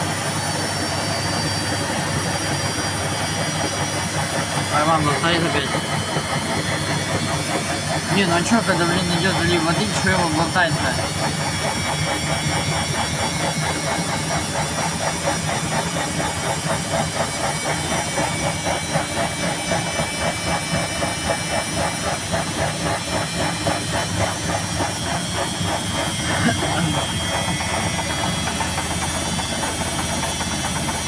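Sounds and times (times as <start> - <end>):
washing machine rhythmic beat: 0.1 - 31.0.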